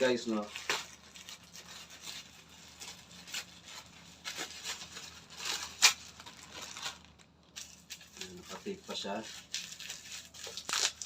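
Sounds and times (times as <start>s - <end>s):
packaging rustling and crumpling: 0.0s - 11.0s
packaging sharp rip: 0.4s - 8.5s, 9.4s - 11.0s.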